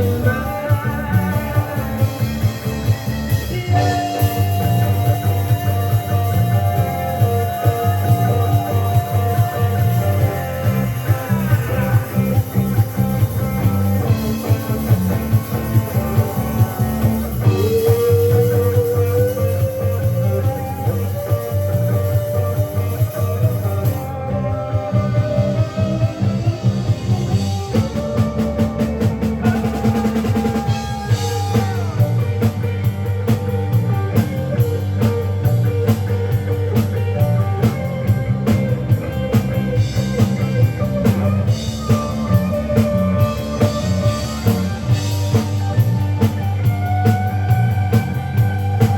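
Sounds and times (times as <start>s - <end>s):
drum kit beat: 0.0s - 48.9s
live rock band playing: 0.0s - 48.9s
sliding guitar lead line: 0.0s - 48.9s.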